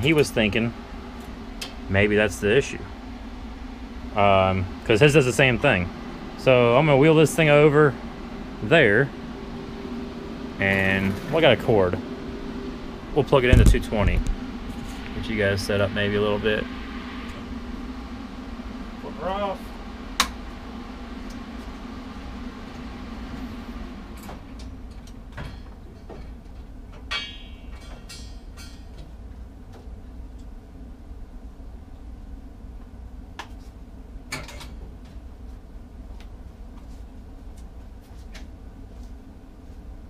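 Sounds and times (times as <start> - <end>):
cooling fan winding down: 0.0 - 40.0
low steady hum: 0.0 - 40.0.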